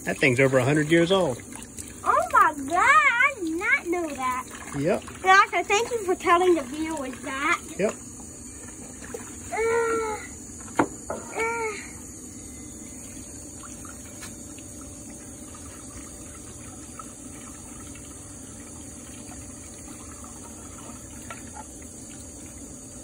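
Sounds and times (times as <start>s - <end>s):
water trickling onto brick steps: 0.0s - 10.2s, 13.5s - 22.7s.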